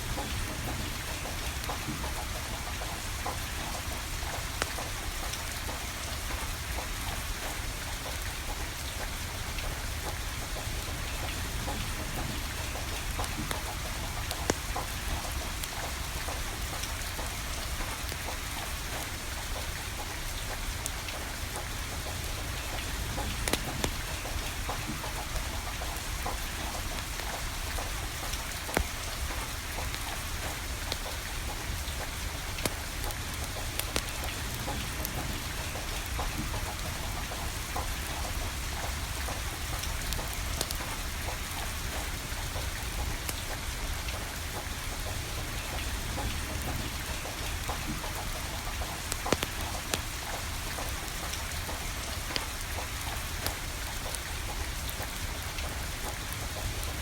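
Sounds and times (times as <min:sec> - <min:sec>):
steady rain falling: 0:00.0 - 0:57.0
wood fire crackling and popping: 0:00.1 - 0:43.6, 0:44.2 - 0:57.0.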